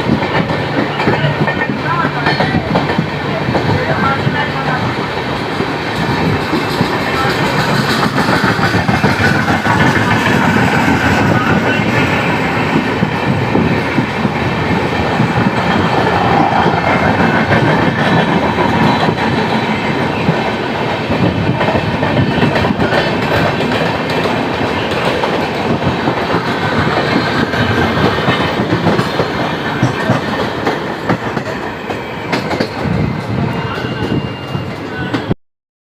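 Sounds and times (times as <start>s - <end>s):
train wheels clattering on rails: 0.0s - 35.3s.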